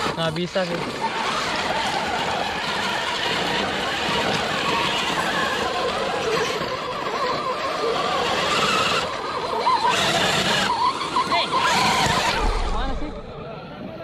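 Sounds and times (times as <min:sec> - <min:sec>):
electric motor and gears whining: 0:00.0 - 0:14.0.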